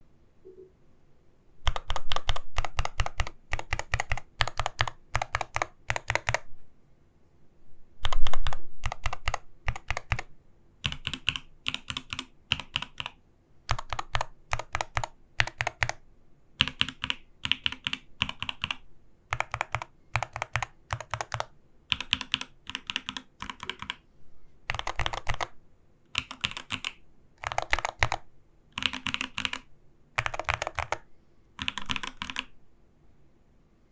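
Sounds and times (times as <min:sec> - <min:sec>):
keyboard typing: 0:01.6 - 0:06.5, 0:08.0 - 0:16.0, 0:16.6 - 0:24.0, 0:24.7 - 0:32.6.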